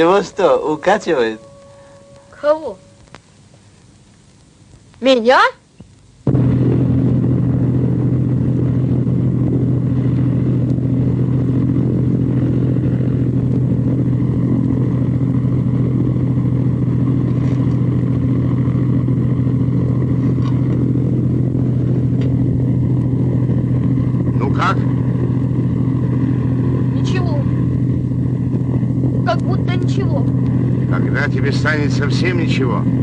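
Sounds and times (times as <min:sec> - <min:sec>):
propeller aircraft engine droning: 0:00.0 - 0:03.6, 0:06.1 - 0:33.0.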